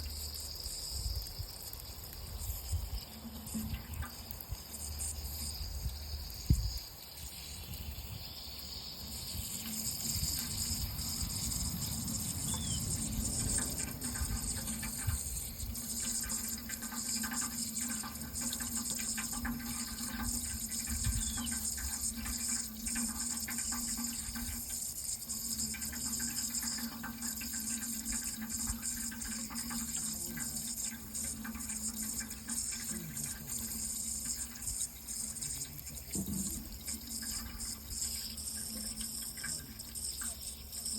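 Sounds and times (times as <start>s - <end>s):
water running steadily: 0.0s - 40.9s.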